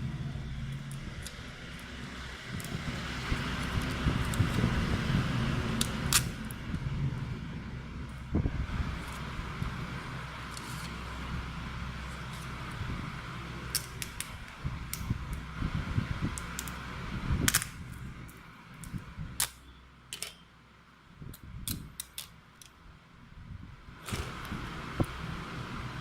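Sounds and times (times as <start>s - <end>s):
low hum: 0.0s - 21.7s.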